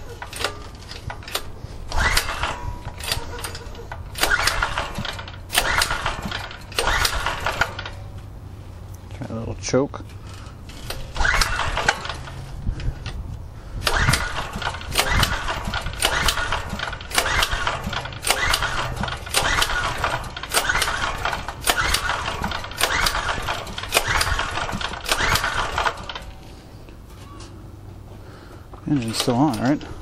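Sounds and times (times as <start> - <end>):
engine turning over: 0.0 - 8.3, 10.1 - 13.2, 13.8 - 26.6
generator recoil starter pulls: 0.0 - 8.3, 9.6 - 27.6, 28.2 - 30.0.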